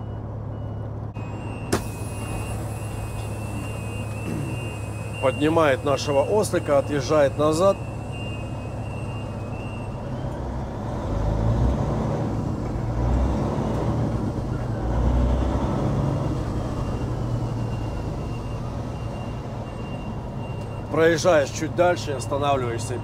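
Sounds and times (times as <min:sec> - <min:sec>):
truck diesel idling: 0:00.0 - 0:11.4, 0:12.0 - 0:23.0
diesel engine revving: 0:00.0 - 0:23.0.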